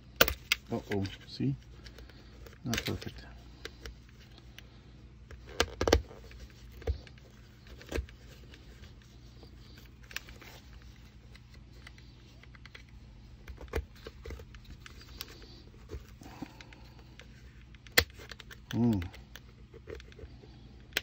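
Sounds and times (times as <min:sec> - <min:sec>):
faint steady hum: 0:00.0 - 0:21.0
clips knocking against helmet shell: 0:00.2 - 0:04.6, 0:05.3 - 0:21.0.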